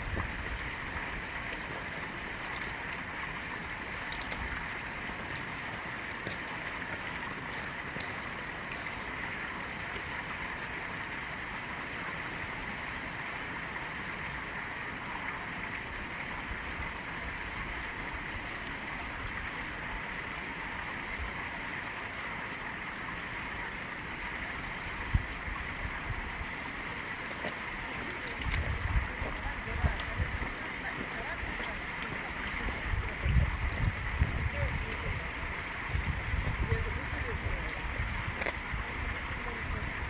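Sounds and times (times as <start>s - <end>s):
water flowing under ice: 0.0s - 40.0s.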